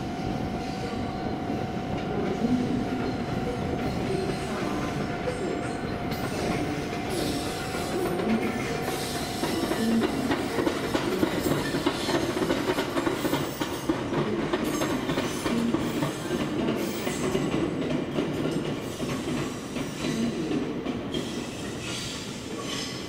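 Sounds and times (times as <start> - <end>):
train rumbling on tracks: 0.0 - 23.0.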